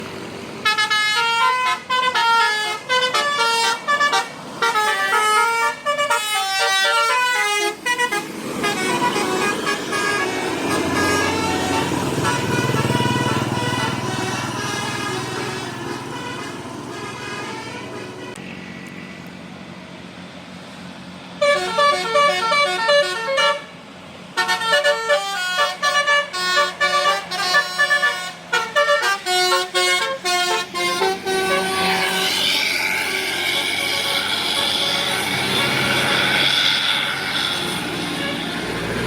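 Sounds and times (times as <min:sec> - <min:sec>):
bus engine rumble: 0:00.0 - 0:39.0
musical bus horn tune: 0:00.6 - 0:18.5, 0:21.4 - 0:39.0.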